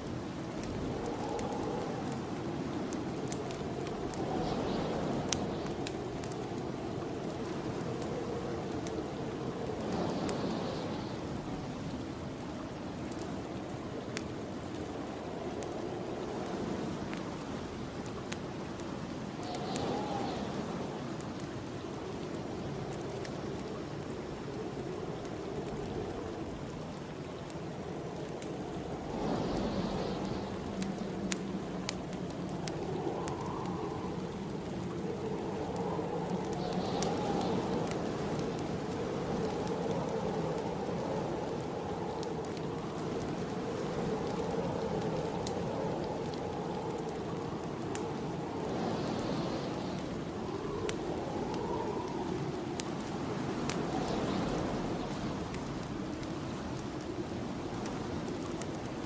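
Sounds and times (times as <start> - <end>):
wind blowing in gusts: 0.0 - 59.0
wood fire crackling: 0.0 - 59.0.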